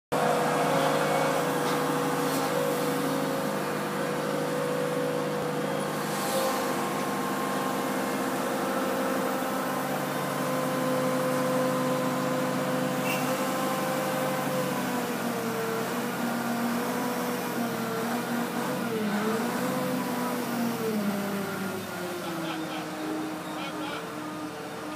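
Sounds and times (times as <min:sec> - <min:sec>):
diesel engine running: 0:00.1 - 0:24.9.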